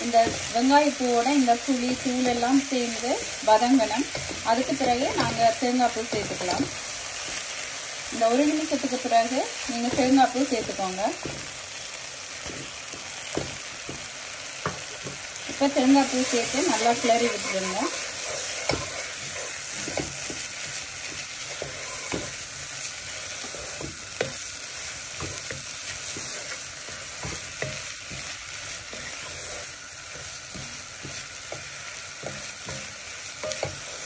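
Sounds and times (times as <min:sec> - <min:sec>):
spatula knocking and scraping pan: 0:00.0 - 0:07.4, 0:08.4 - 0:11.6, 0:12.4 - 0:34.0
food sizzling in a wok: 0:00.0 - 0:34.0.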